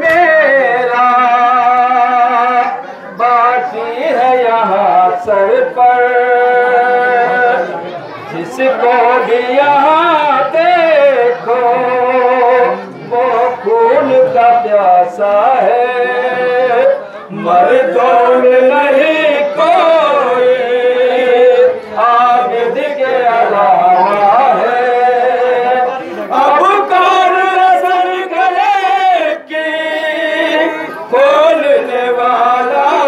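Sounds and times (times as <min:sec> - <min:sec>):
man chanting a lament: 0:00.0 - 0:33.0.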